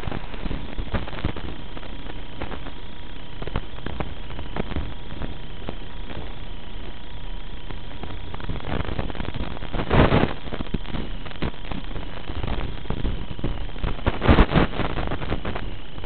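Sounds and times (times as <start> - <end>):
static hiss and crackling: 0.0 - 16.0.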